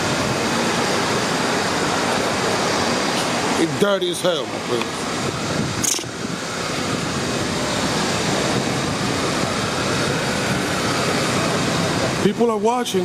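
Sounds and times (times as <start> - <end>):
passing vehicles rushing: 0.0 - 13.0.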